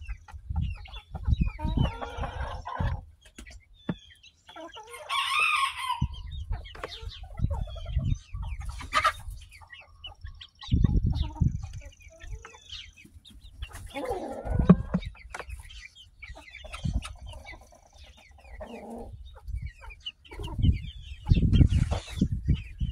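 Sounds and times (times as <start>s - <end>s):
chickens clucking: 0.0s - 22.9s
chickens pecking at feed: 0.1s - 5.3s, 6.4s - 22.9s.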